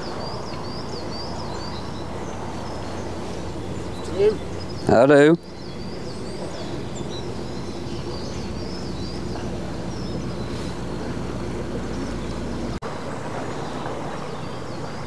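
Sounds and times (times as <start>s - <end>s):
boat diesel engine running: 0.0s - 15.0s
small birds chirping: 0.0s - 15.0s.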